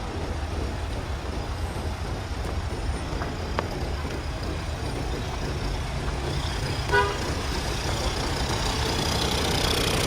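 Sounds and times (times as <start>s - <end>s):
heavy rain on street: 0.0s - 10.0s
passing traffic rumble: 0.0s - 10.0s.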